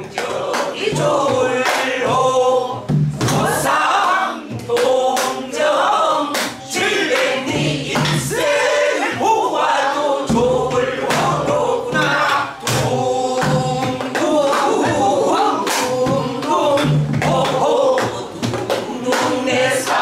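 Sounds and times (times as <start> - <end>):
group singing folk song in unison: 0.0 - 20.0.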